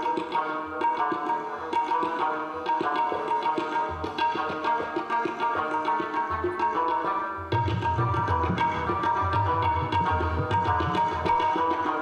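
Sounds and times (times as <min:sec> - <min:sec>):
plucked string instrument: 0:00.0 - 0:12.0
tabla strokes: 0:00.0 - 0:12.0.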